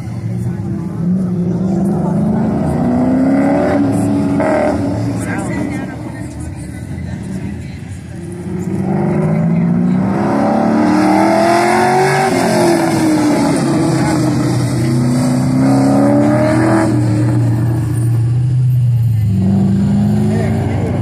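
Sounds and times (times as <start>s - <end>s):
car engine revving hard: 0.8s - 6.4s, 8.2s - 18.3s, 19.2s - 21.0s.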